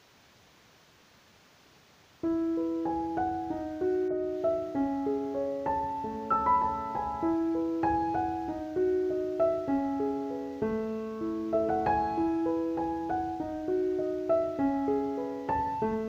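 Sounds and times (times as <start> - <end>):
gentle piano melody: 2.2 - 16.0.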